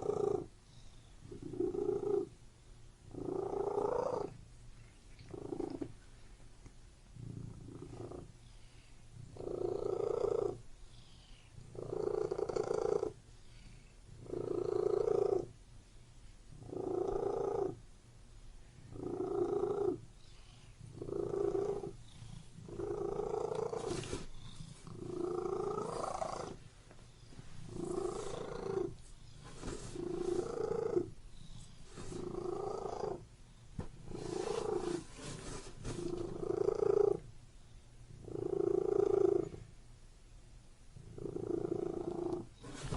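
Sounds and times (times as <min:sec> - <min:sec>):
cat purring: 0:00.0 - 0:02.4, 0:03.0 - 0:06.4, 0:07.1 - 0:15.6, 0:16.5 - 0:17.9, 0:18.8 - 0:37.3, 0:38.1 - 0:39.7, 0:40.9 - 0:42.9.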